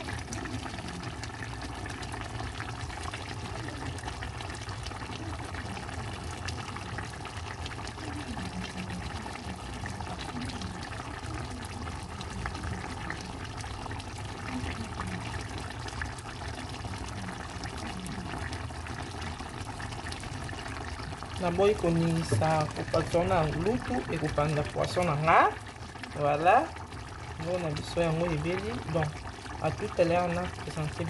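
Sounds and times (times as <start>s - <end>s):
sauce bubbling in a pan: 0.0s - 31.0s.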